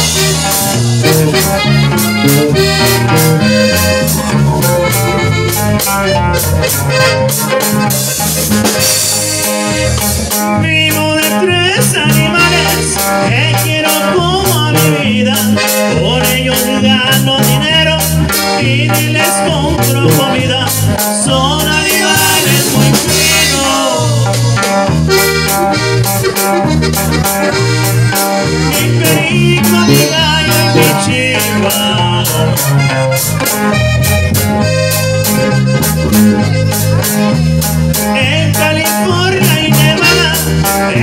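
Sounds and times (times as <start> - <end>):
accordion melody: 0.0 - 41.0
bajo sexto strumming: 0.0 - 41.0
electric bass: 0.0 - 41.0
steady drum beat: 0.0 - 41.0.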